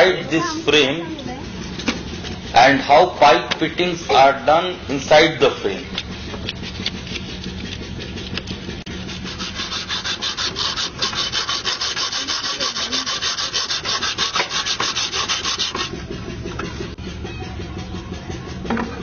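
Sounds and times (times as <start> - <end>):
back-and-forth scraping strokes: 0.0 - 17.1.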